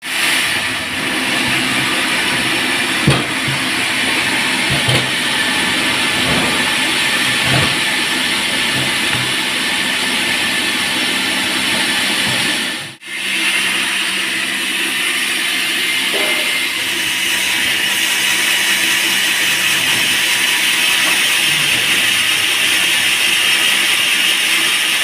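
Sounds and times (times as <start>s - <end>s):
band sawmill running: 0.0s - 25.0s.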